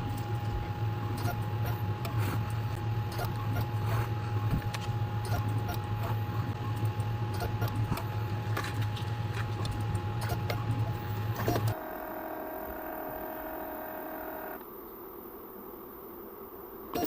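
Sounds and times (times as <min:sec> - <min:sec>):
machine humming and whining: 0:00.0 - 0:17.0.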